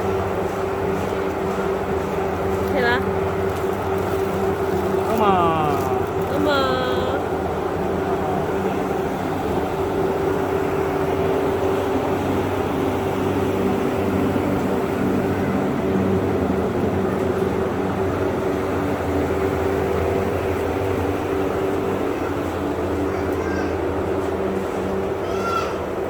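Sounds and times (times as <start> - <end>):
steady mechanical drone: 0.0 - 26.0.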